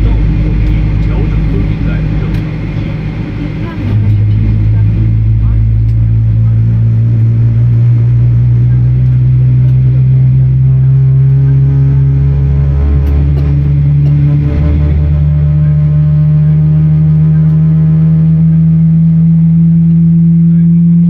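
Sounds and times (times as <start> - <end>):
jet engines spooling up: 0.0 - 20.1.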